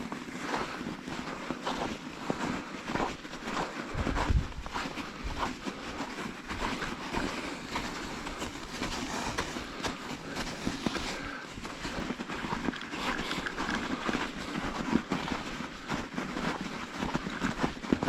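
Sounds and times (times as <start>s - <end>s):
crunching of crusted snow: 0.0s - 18.0s.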